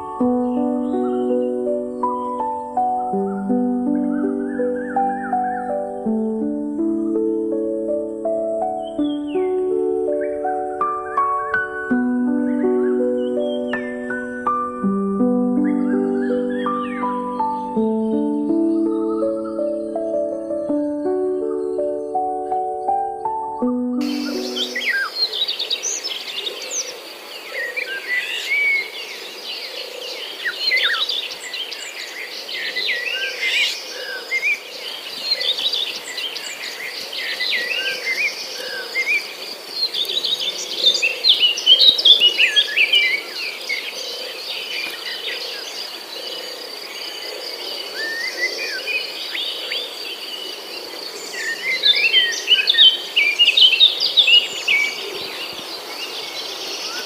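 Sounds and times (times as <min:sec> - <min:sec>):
birds chirping and whistling: 0:00.0 - 0:06.2, 0:08.3 - 0:14.9, 0:15.6 - 0:26.9, 0:27.5 - 0:57.0.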